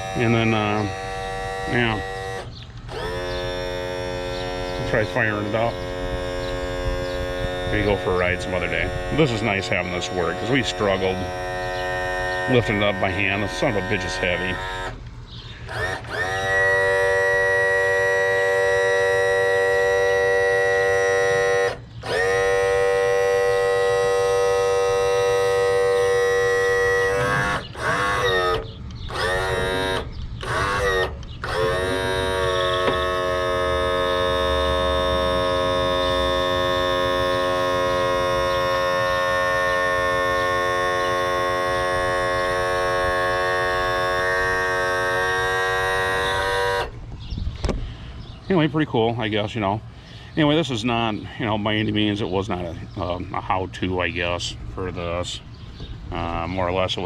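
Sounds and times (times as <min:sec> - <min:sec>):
electric trim motor whining: 0:00.0 - 0:48.4.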